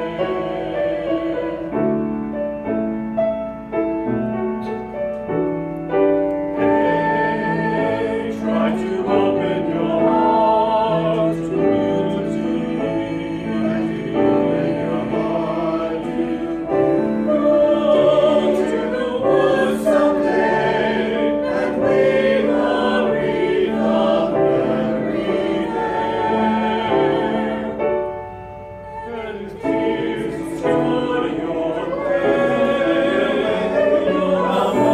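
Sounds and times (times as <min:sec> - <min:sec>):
mixed choir singing: 0:00.0 - 0:02.3, 0:06.4 - 0:28.2, 0:28.8 - 0:34.9.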